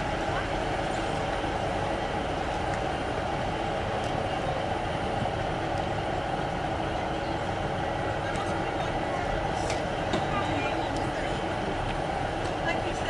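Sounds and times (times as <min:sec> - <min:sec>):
train diesel engines idling: 0:00.0 - 0:13.0.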